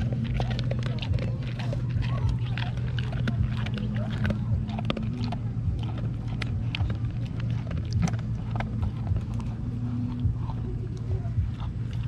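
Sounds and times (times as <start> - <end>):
dog chewing and licking: 0.0 - 12.0
steady low hum: 0.0 - 12.0.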